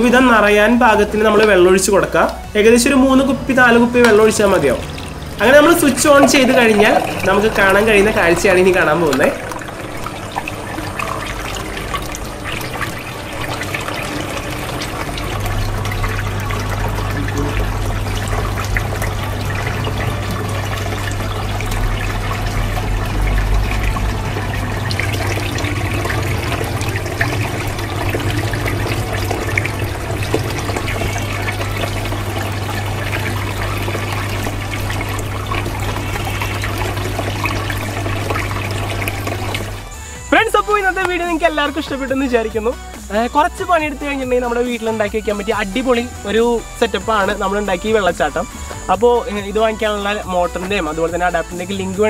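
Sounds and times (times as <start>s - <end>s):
fountain water trickling and splashing: 0.0s - 52.0s
pump humming: 0.0s - 52.0s.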